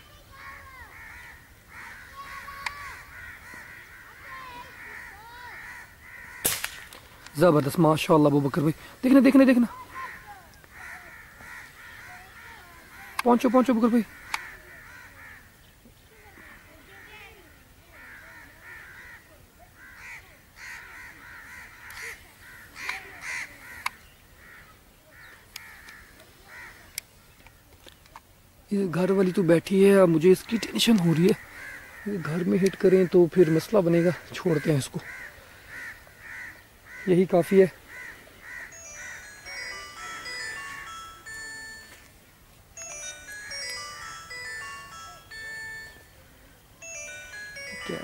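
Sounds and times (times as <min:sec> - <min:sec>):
birds calling harshly: 0:00.0 - 0:48.0.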